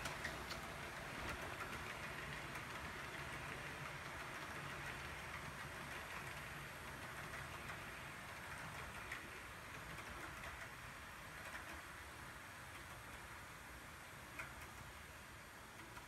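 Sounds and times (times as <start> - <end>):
model train wheels whirring: 0.0 - 16.0.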